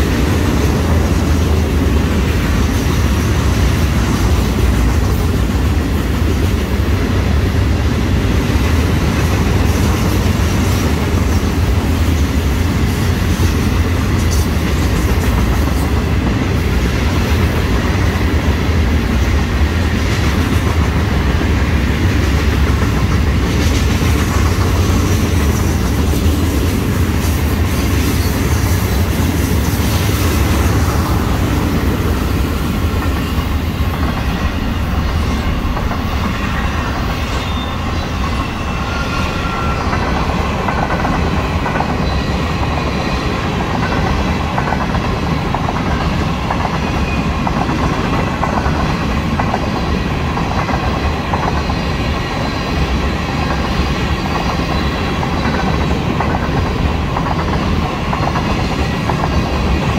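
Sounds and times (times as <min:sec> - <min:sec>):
clickety-clack over rail joints: 0:00.0 - 0:38.7, 0:39.4 - 0:59.9
train wheels rumbling on rail: 0:00.0 - 0:59.9.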